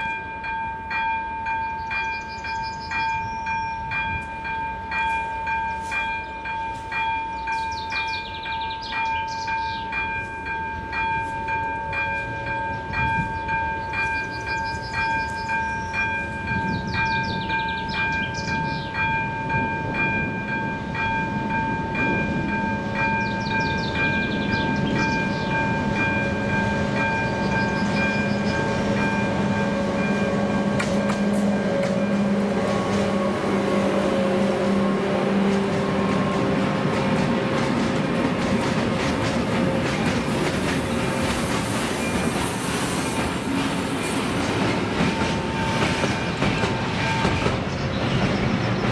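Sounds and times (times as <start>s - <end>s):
level crossing warning bell: 0.0s - 37.5s, 43.1s - 47.7s
diesel locomotive engine: 0.0s - 48.9s
birds chirping: 1.6s - 4.5s, 5.6s - 11.0s, 12.2s - 20.2s, 22.3s - 48.9s.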